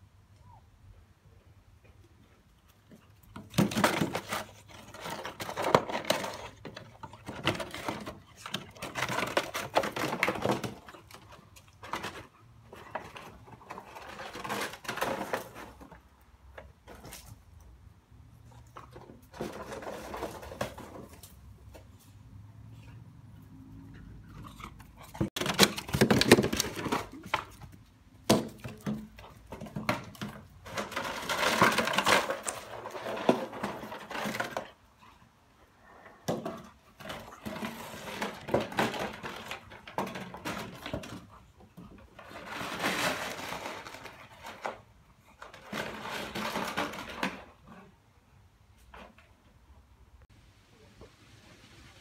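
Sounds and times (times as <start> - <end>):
puppy playing with a ball: 2.0 - 49.6.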